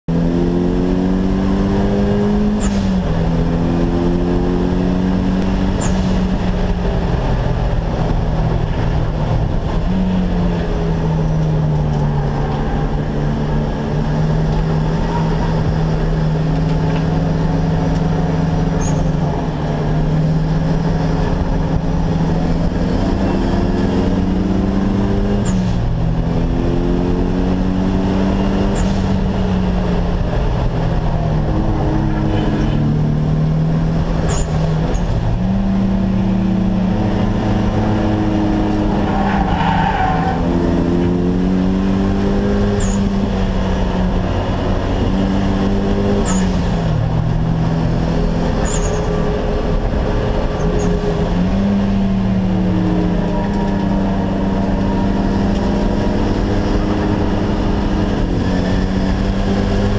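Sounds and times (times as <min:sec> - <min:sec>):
car engine revving and upshifting: 0:00.1 - 0:59.9.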